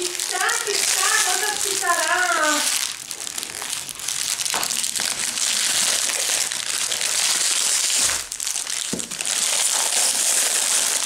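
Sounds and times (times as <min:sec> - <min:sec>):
wrapper crinkling: 0:00.0 - 0:11.0.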